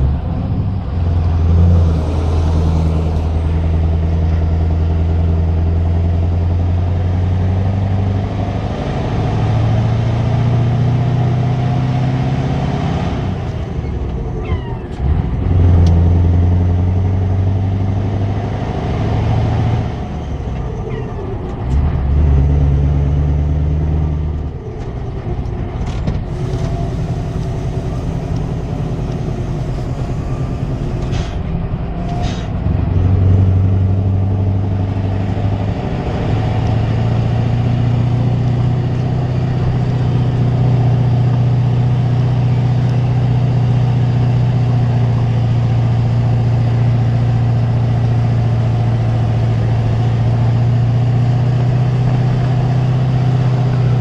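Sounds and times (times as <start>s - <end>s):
truck engine deep note: 0.0s - 54.0s.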